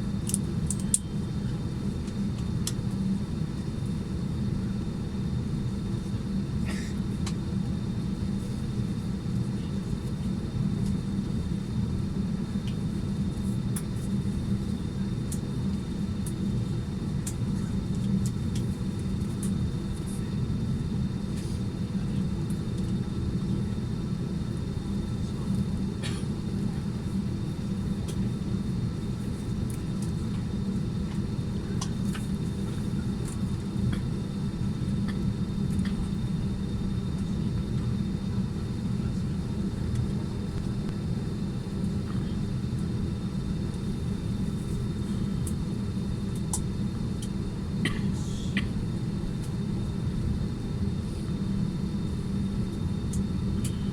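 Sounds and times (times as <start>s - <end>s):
air conditioning hum: 0.0s - 53.9s
airliner engine noise: 0.0s - 53.9s.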